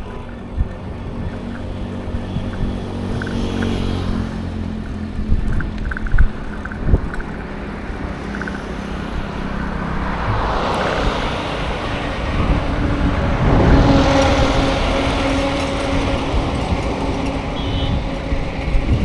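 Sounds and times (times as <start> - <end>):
road traffic rumble: 0.0 - 19.0
wind on microphone: 0.0 - 19.0
vehicle passing: 0.9 - 19.0.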